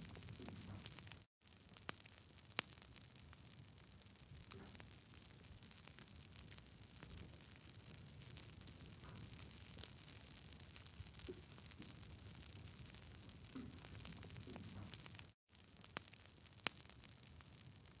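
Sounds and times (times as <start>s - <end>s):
fire pops and snaps: 0.0s - 18.0s.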